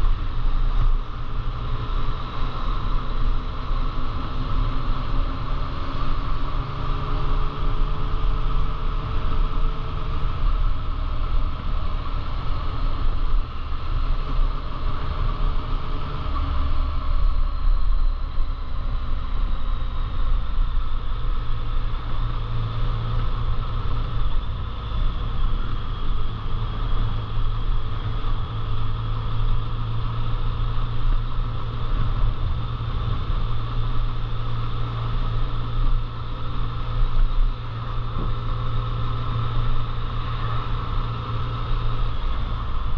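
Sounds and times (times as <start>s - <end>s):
vehicle engine drone: 0.0s - 42.9s.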